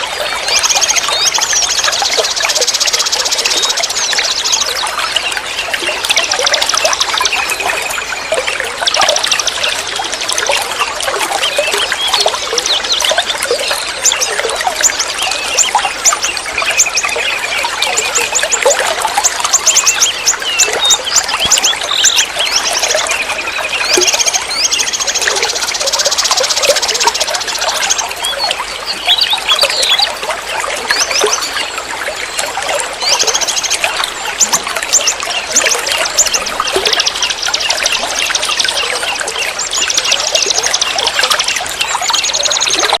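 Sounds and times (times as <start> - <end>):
birds singing trilling phrases: 0.0 - 43.0
river water splashing over rocks: 0.0 - 43.0.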